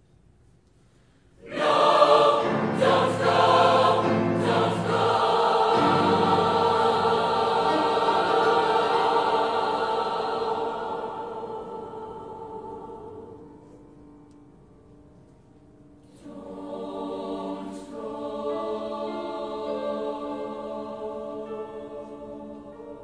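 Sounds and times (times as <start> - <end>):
mixed choir singing sustained chords: 1.3 - 23.0.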